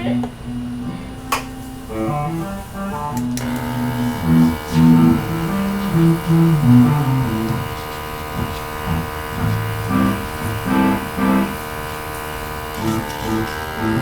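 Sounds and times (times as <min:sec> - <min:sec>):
music with low plucked notes: 0:00.0 - 0:11.6, 0:12.7 - 0:14.0
steady electric buzz: 0:00.0 - 0:14.0.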